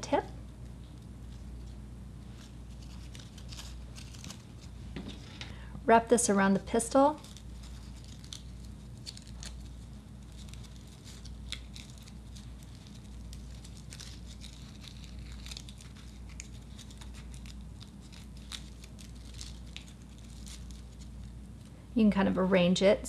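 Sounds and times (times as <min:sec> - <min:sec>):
low steady hum: 0:00.0 - 0:23.0
crepe paper crinkling: 0:00.8 - 0:05.2, 0:06.9 - 0:21.8.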